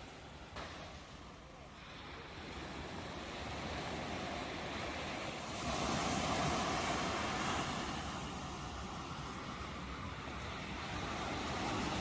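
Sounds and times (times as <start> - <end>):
ocean waves on shore: 0.0 - 12.0.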